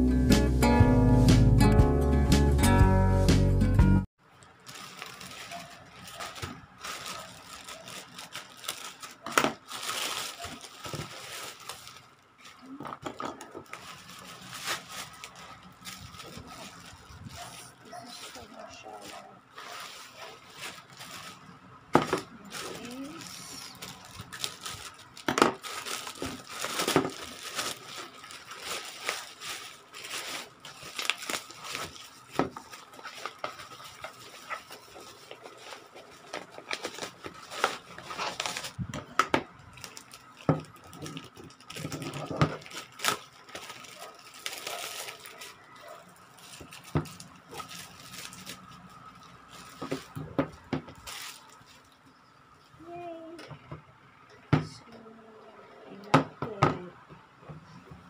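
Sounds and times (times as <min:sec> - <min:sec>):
plastic packaging crinkling: 0:04.2 - 0:52.2.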